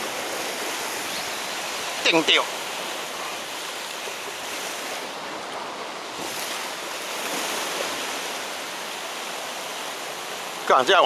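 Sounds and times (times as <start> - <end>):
waves washing on rocky shore: 0.0 - 11.0.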